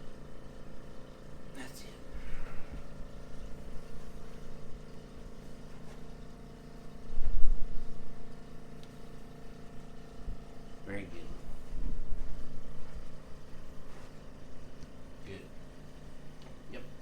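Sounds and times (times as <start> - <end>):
equipment humming: 0.0 - 17.0.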